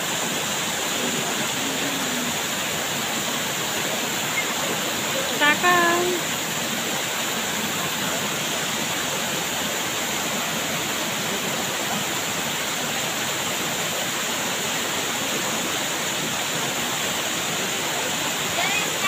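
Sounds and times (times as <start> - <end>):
water rushing over weir: 0.0 - 19.0.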